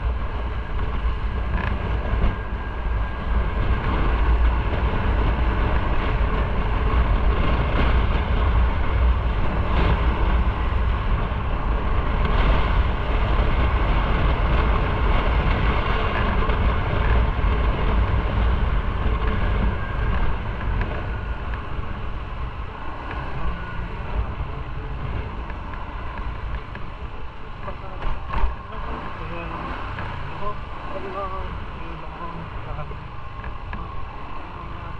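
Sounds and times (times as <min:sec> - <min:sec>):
motorcycle engine and road drone: 0:00.0 - 0:34.9
wind buffeting microphone: 0:00.0 - 0:34.9.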